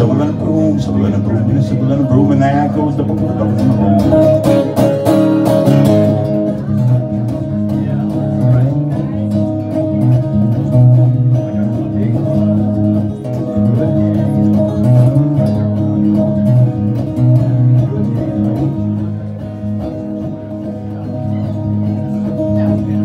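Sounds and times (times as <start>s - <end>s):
acoustic guitar picked and strummed: 0.0s - 23.0s.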